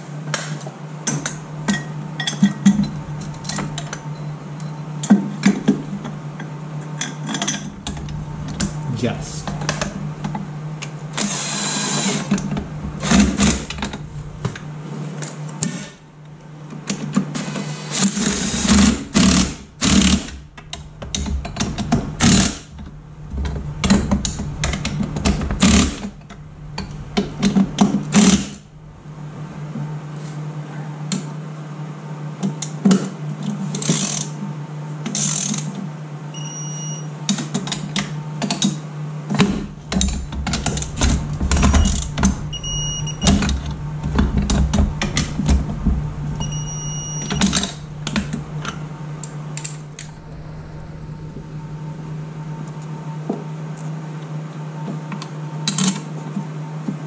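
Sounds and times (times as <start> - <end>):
steady low hum: 0.0 - 33.6, 35.9 - 57.0.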